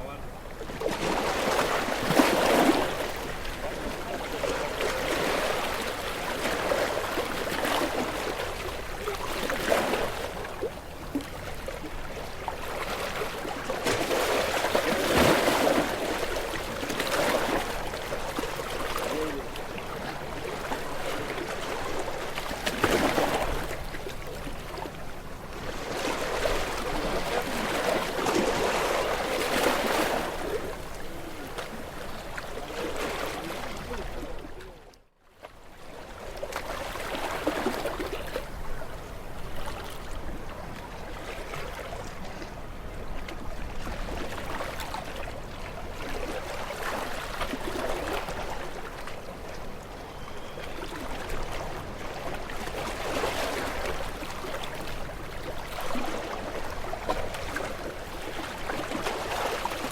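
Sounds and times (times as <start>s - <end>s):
gentle sea waves washing on shore: 0.0s - 59.9s.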